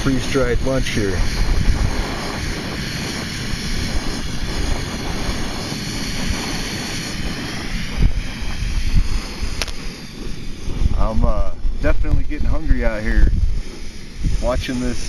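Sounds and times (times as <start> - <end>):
camping stove hissing: 0.0 - 15.0
wind buffeting microphone: 0.0 - 15.0.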